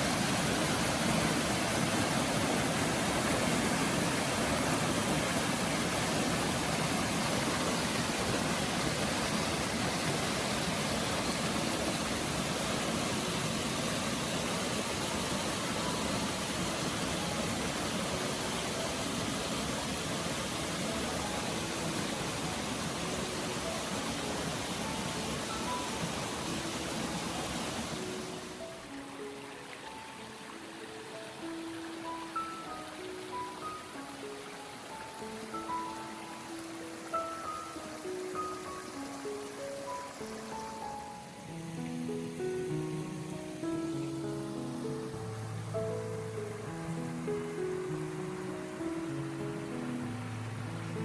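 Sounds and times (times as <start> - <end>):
spring water flowing: 0.0 - 51.0.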